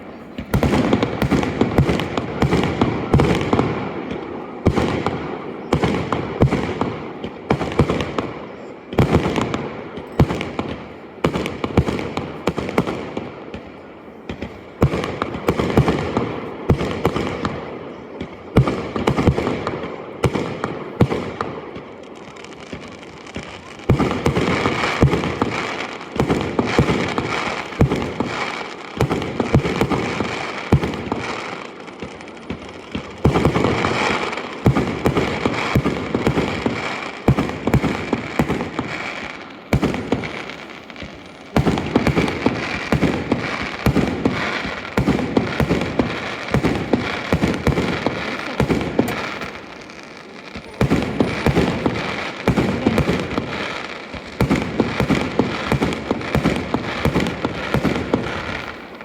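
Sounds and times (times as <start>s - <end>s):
fireworks bangs and booms: 0.0s - 59.0s
fireworks crackling: 0.0s - 59.0s.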